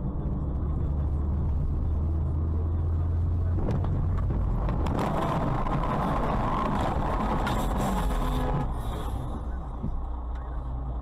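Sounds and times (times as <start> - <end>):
engine and road hum: 0.0 - 11.0
rushing tyre noise: 0.0 - 11.0.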